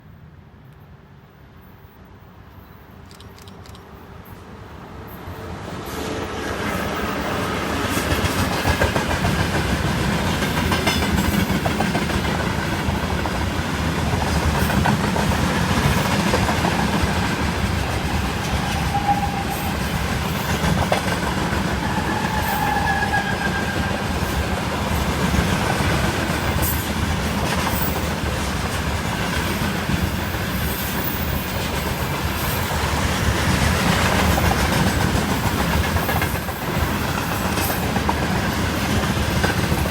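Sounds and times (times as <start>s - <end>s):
train wheels rumbling on rails: 3.1s - 39.9s.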